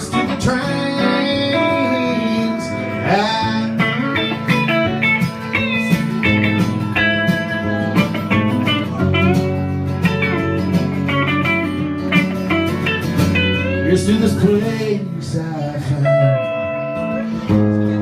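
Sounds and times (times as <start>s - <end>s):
lead guitar sliding melody: 0.0s - 18.0s
live band playing: 0.0s - 18.0s.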